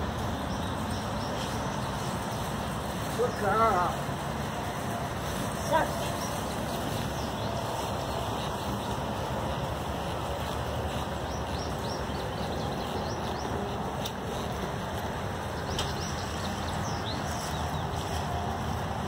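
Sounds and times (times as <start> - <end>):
steady rain: 0.0 - 19.0
small birds chirping: 0.2 - 4.1, 5.5 - 9.6, 10.3 - 18.5.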